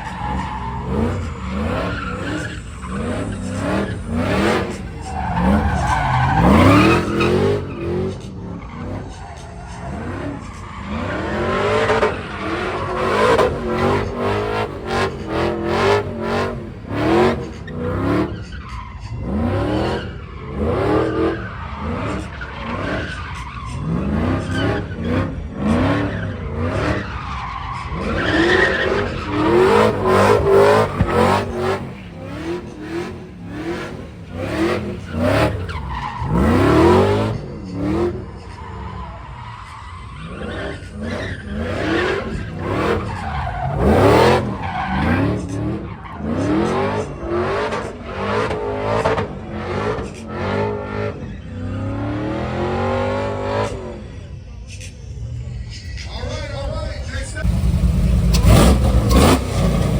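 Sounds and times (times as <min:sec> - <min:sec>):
car engines revving: 0:00.0 - 0:59.9
tires squealing and skidding: 0:00.0 - 0:59.9.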